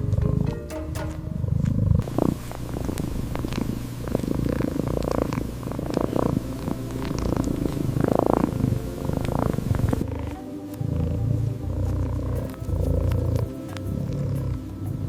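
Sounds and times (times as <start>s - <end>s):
cat purring: 1.7s - 15.0s.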